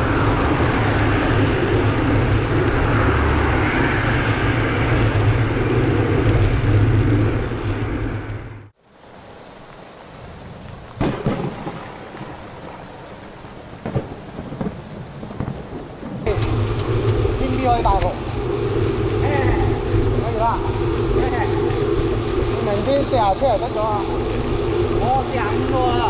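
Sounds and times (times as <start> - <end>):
bicycle wind and road noise: 0.0 - 26.0
steady rain: 0.0 - 26.0
thunder rumbles: 0.0 - 26.0.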